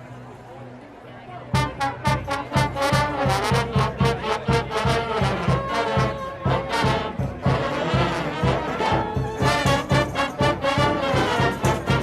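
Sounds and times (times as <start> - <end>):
brass band music: 1.5 - 12.0.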